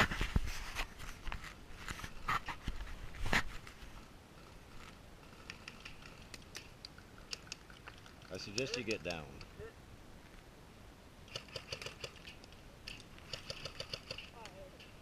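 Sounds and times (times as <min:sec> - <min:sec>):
rustling of movement: 0:00.0 - 0:15.0.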